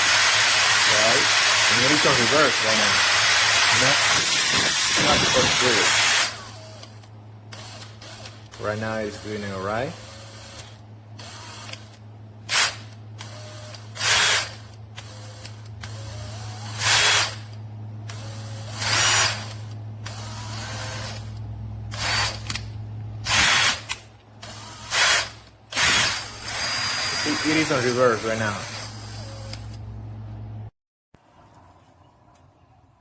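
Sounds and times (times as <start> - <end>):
cordless drill whirring: 0.0 - 29.8.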